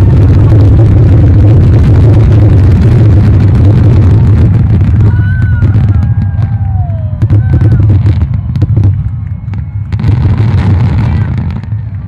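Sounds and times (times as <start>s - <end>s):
firework whistles: 0.0s - 12.0s
fireworks booming and crackling: 0.0s - 12.0s.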